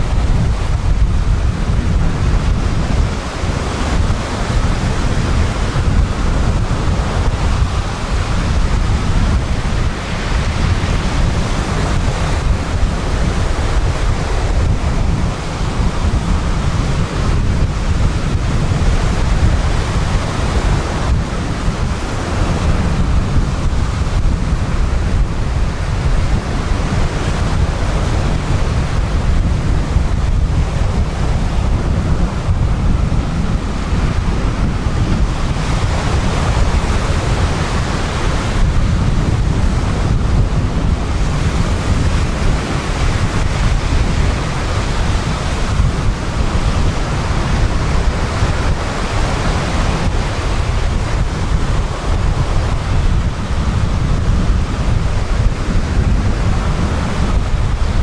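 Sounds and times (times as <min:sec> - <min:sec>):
sea waves breaking on beach: 0:00.0 - 0:58.0
wind buffeting microphone: 0:00.0 - 0:58.0.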